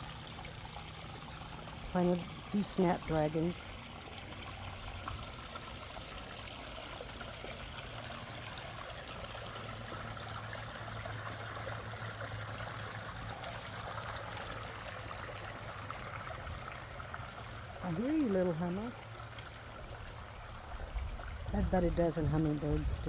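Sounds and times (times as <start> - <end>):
garden waterfall trickling: 0.0 - 23.0.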